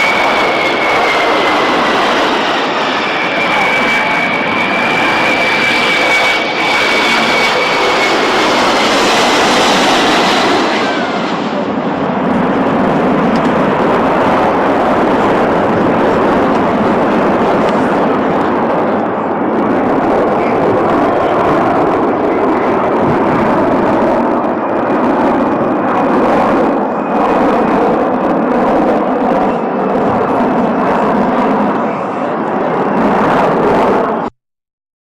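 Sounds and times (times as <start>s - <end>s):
jet engines running: 0.0s - 34.3s.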